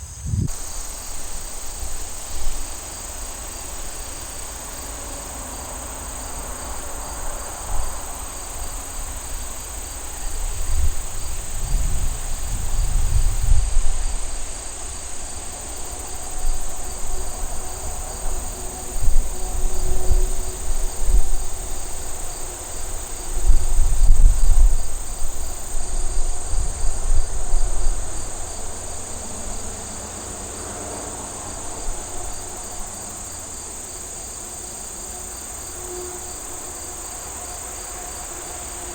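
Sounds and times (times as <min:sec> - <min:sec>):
pulsing insect chirp: 0:00.0 - 0:30.3, 0:31.6 - 0:38.9
insect chorus trilling: 0:00.0 - 0:38.9.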